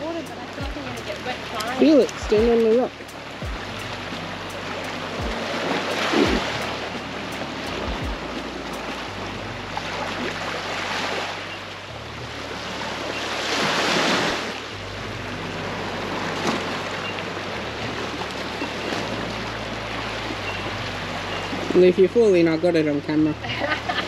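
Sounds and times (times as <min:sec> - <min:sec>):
small waves washing ashore: 0:00.0 - 0:24.0.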